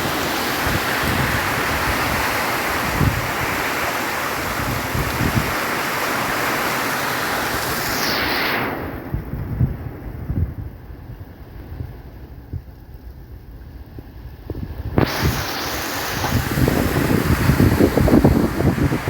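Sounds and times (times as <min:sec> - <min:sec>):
heavy rain hiss: 0:00.0 - 0:19.0
wind gusts buffeting microphone: 0:00.0 - 0:19.0.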